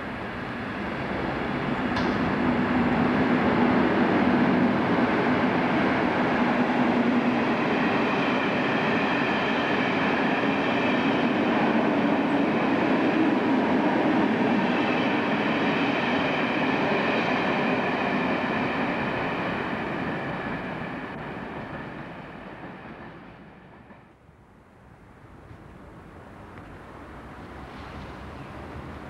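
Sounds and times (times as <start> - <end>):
train wheels rumbling on rails: 0.0 - 24.2, 25.4 - 29.0.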